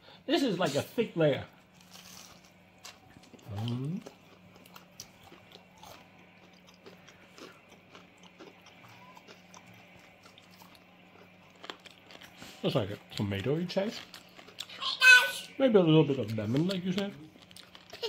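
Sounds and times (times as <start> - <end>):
faint steady hum: 0.0 - 18.0
person chewing: 1.6 - 14.8, 16.1 - 18.0.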